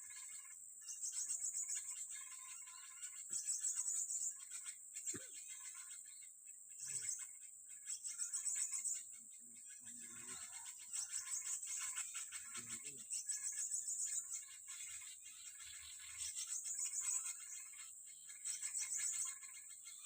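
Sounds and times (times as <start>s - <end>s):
bird chirps: 0.0s - 20.0s
insect trill: 0.0s - 20.0s.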